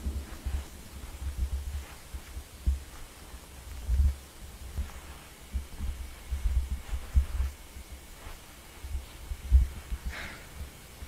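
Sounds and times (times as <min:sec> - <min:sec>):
faint steady hum: 0:00.0 - 0:11.0
muffled footsteps thudding: 0:00.0 - 0:11.0.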